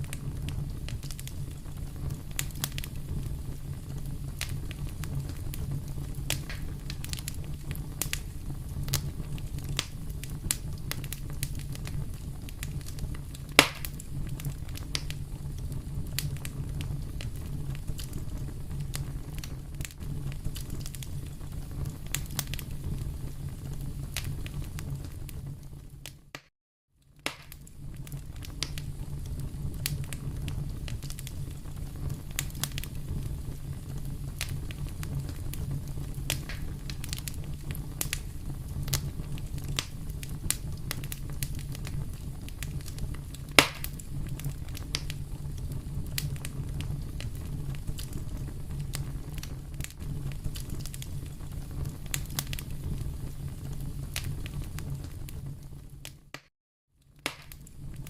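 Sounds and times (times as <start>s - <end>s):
low rumble of flames: 0.0s - 26.4s, 27.0s - 56.4s, 57.0s - 58.0s
fire crackling and popping: 0.0s - 58.0s.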